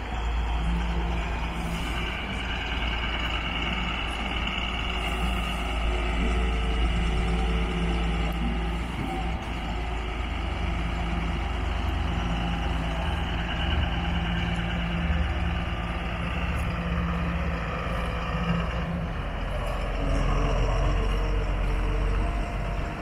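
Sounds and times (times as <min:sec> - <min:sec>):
forklift diesel engine running: 0:00.0 - 0:23.0.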